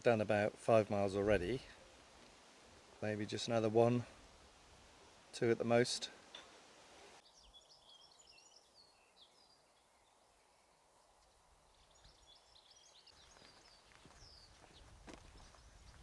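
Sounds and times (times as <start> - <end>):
birds chirping: 0.0 - 16.0
low outdoor hiss: 0.0 - 16.0.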